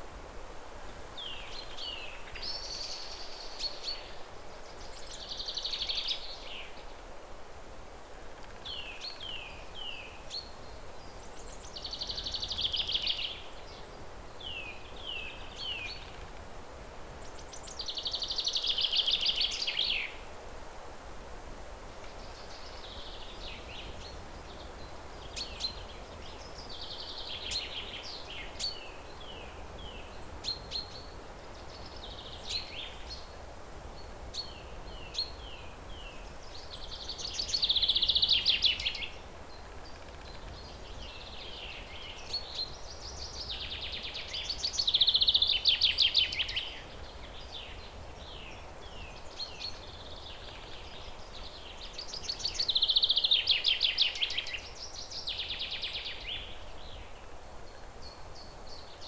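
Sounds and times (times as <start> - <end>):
low background hiss: 0.0 - 59.0
songbirds singing: 0.8 - 7.1, 8.3 - 20.4, 22.0 - 59.0.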